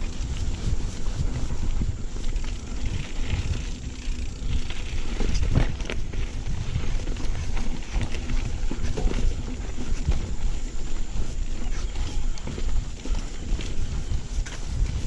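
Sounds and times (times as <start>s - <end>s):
mountain bike rumble and rattle: 0.0s - 15.0s.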